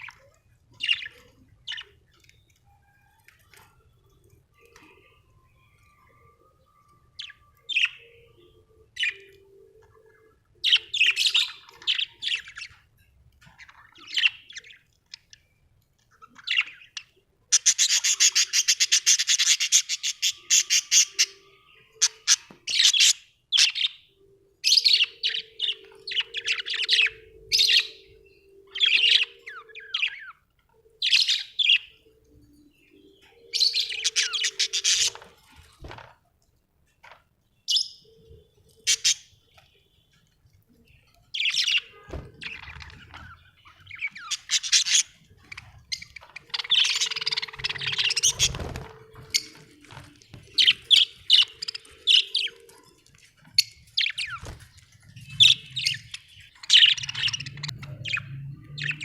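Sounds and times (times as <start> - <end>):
budgerigars chirping: 0.0 - 2.4, 6.2 - 9.4, 10.1 - 12.9, 13.5 - 30.4, 31.0 - 32.1, 32.9 - 36.0, 37.7 - 59.0.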